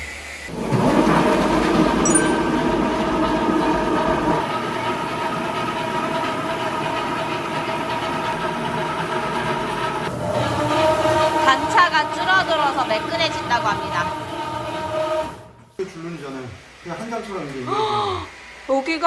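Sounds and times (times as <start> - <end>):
floor grinder whining and grinding: 0.5 - 19.0.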